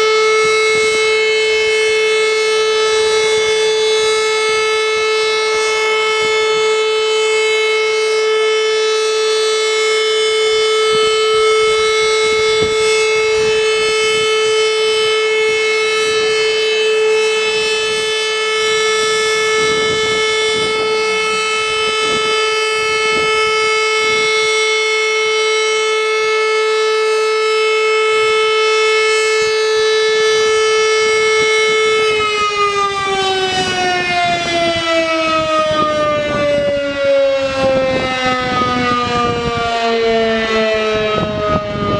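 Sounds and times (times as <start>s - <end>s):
siren steady tone: 0.0s - 41.9s.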